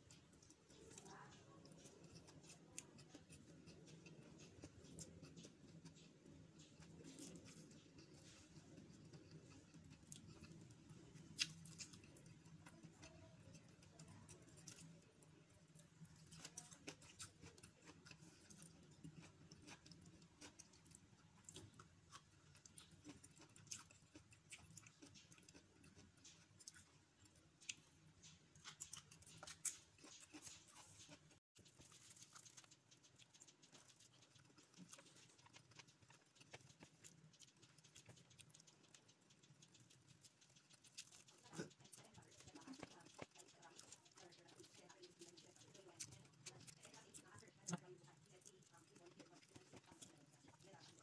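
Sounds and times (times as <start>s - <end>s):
chewing and lip-smacking: 0.0s - 51.0s.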